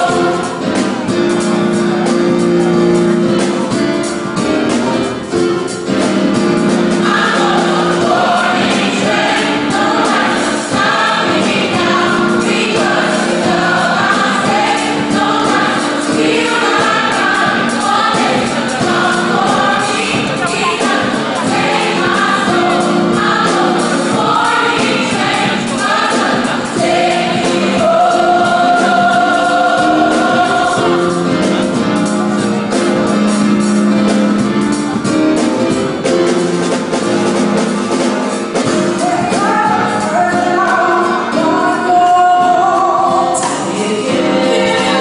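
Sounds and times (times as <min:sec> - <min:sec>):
gospel choir singing: 0:00.0 - 0:34.7, 0:35.6 - 0:45.0
live band playing: 0:00.0 - 0:45.0.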